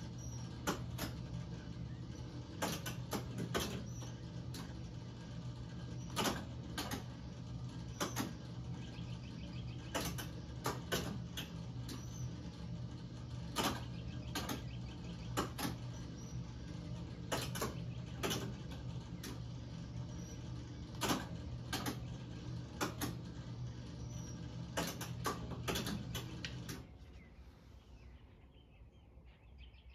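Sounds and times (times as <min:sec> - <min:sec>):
sharp mechanical relay clicks: 0:00.0 - 0:26.8
machine hum: 0:00.0 - 0:29.9.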